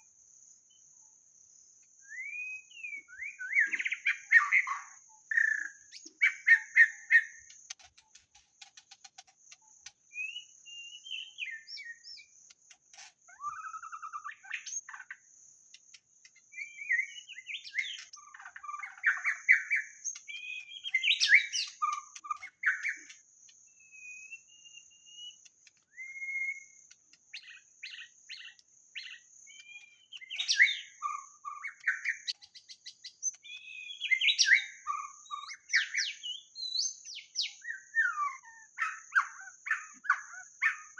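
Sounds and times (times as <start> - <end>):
bird singing whistled phrases: 2.0 - 7.4, 10.1 - 12.3, 13.3 - 14.9, 16.5 - 23.1, 23.8 - 40.9.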